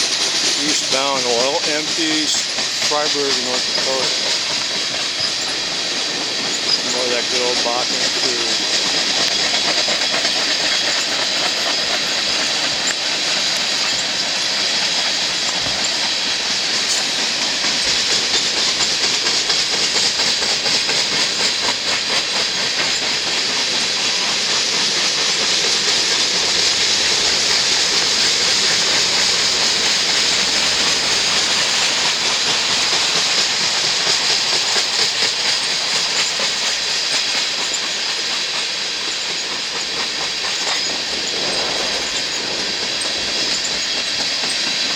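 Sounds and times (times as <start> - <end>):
high-pitched wheel hiss: 0.0 - 44.9
train wheels rattling on rail: 0.0 - 44.9.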